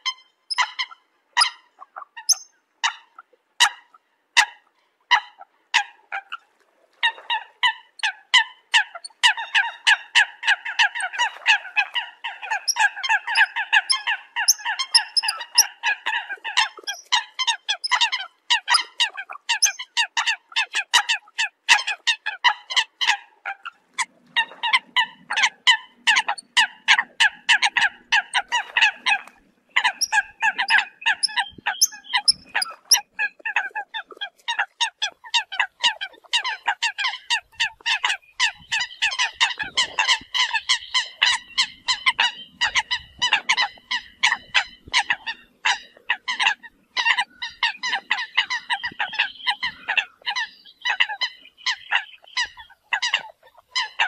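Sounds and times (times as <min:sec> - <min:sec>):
coots calling: 0:07.1 - 0:54.0.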